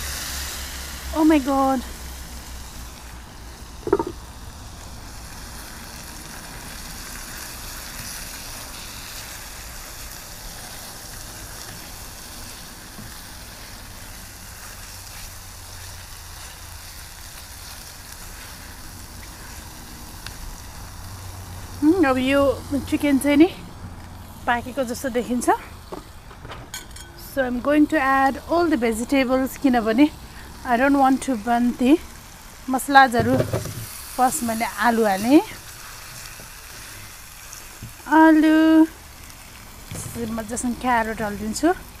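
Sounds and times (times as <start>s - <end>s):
food sizzling in a skillet: 0.0s - 25.9s, 26.8s - 42.0s.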